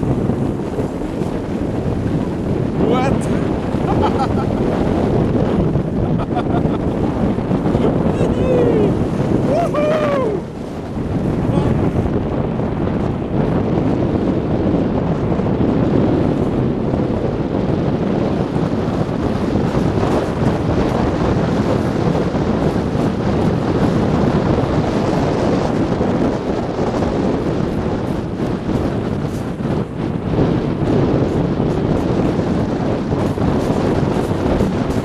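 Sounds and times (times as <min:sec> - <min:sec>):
sled runners on packed snow: 0:00.0 - 0:35.0
wind noise on microphone: 0:00.0 - 0:35.0.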